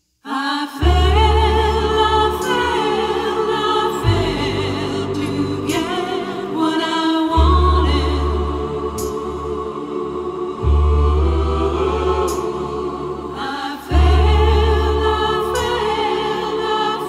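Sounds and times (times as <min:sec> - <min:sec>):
choir-like singing: 0:00.2 - 0:17.0
deep held bass notes: 0:00.8 - 0:16.3.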